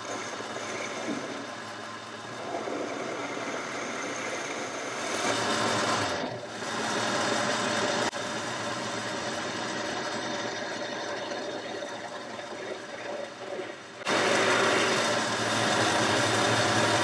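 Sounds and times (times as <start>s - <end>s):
lathe running and cutting: 0.0s - 17.0s.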